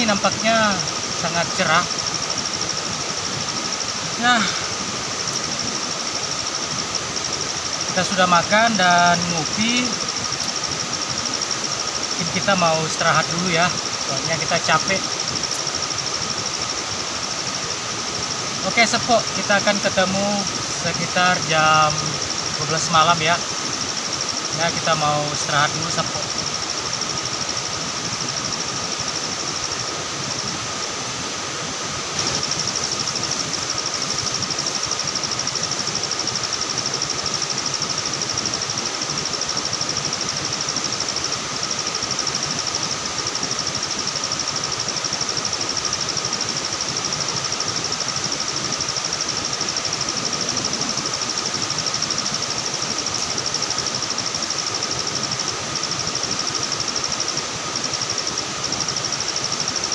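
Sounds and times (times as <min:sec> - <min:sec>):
constant rushing noise: 0:00.0 - 0:59.9
high pulsing insect trill: 0:00.0 - 0:59.9.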